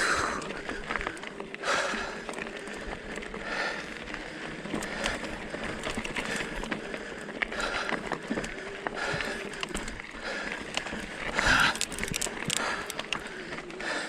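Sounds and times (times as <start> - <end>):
bike tyres crunching over gravel: 0.0 - 14.0
rider breathing hard: 0.0 - 14.0
small clicks and rattles: 0.0 - 14.0.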